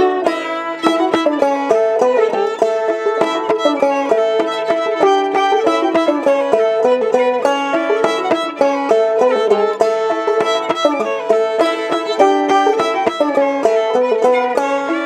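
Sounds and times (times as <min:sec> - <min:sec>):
bowed fiddle: 0:00.0 - 0:15.0
plucked banjo: 0:00.0 - 0:15.0.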